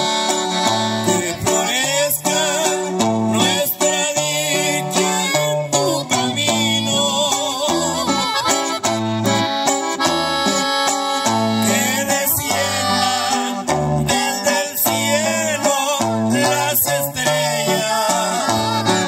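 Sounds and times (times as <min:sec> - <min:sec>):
accordion melody: 0:00.0 - 0:19.0
bass line: 0:00.0 - 0:19.0
strummed guitar: 0:00.0 - 0:19.0.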